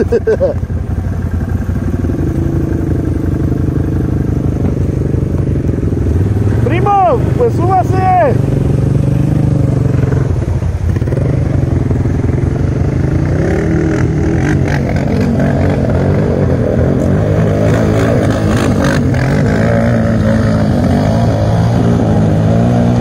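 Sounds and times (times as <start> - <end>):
atv engine droning: 0.0 - 23.0.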